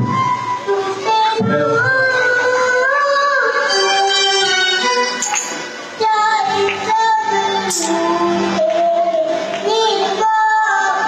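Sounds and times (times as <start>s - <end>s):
instrumental backing music: 0.0s - 11.0s
child singing: 0.7s - 4.9s, 6.0s - 11.0s.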